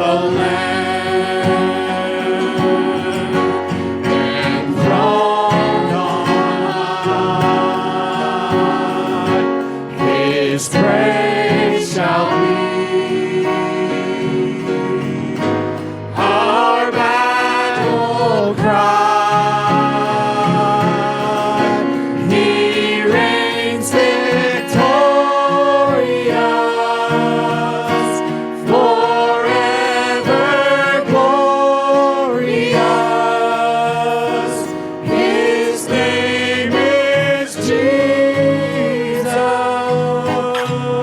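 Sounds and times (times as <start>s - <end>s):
congregation singing with band: 0.0s - 41.0s.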